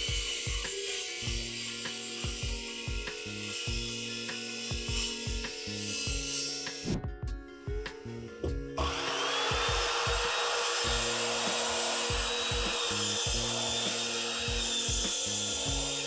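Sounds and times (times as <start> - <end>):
circular saw cutting wood: 0.0 - 7.0, 8.8 - 16.0
background music with beat: 0.0 - 16.0.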